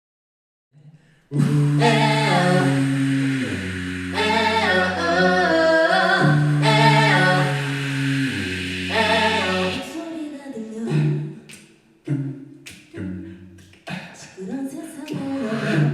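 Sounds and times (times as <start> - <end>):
vocal group singing in harmony: 1.3 - 15.9.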